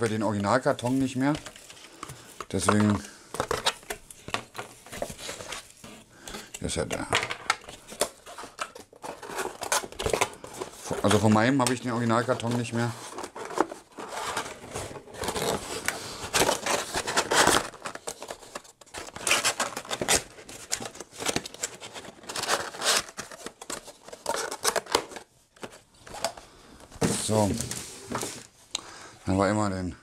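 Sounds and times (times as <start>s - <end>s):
cardboard scraping and rustling: 0.8s - 6.1s, 7.6s - 26.3s, 27.0s - 28.5s.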